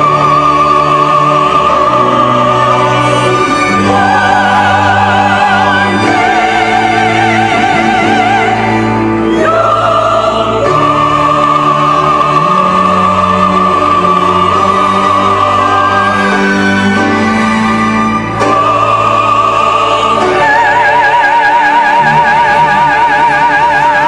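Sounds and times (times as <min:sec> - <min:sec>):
church choir singing: 0:00.0 - 0:24.0.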